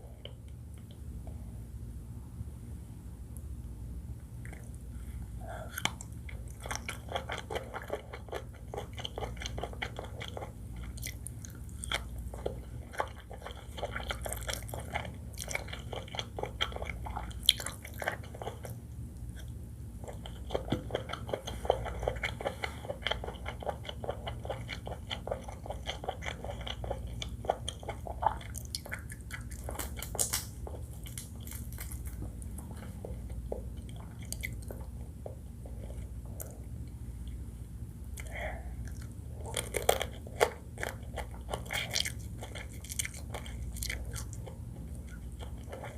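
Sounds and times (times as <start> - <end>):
chewing and crunchy bites: 5.5 - 37.4, 38.1 - 45.9.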